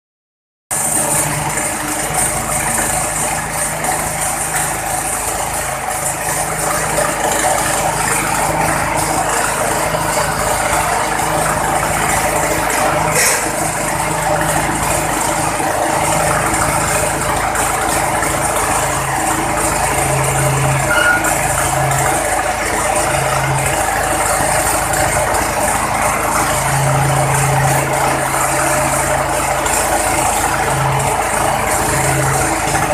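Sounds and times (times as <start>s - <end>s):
tyre changer machine running: 0.7s - 32.9s
low motor hum: 0.8s - 32.9s.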